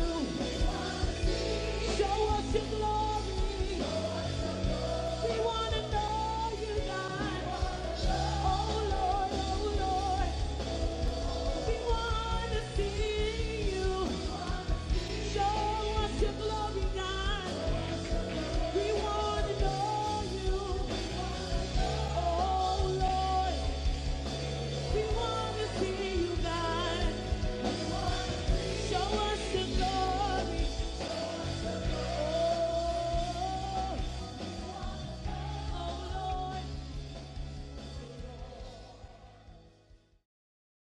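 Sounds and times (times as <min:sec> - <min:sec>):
woman singing into microphone: 0:00.0 - 0:24.1, 0:24.7 - 0:37.1
band with drums: 0:00.0 - 0:40.1.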